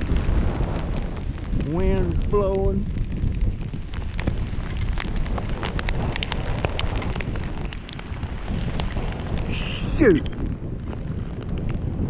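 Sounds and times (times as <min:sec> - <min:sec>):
raindrop ticks: 0:00.0 - 0:12.0
wind rumble on microphone: 0:00.0 - 0:12.0.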